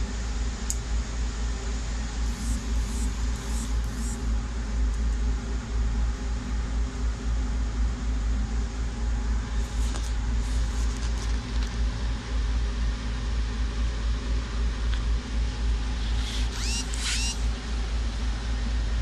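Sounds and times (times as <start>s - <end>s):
machinery rumbling and humming: 0.0s - 19.0s.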